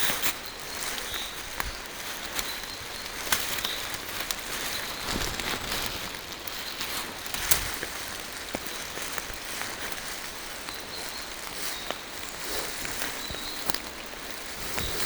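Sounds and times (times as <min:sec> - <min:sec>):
rain pattering on leaves: 0:00.0 - 0:15.0
footfalls on forest floor: 0:02.4 - 0:15.0.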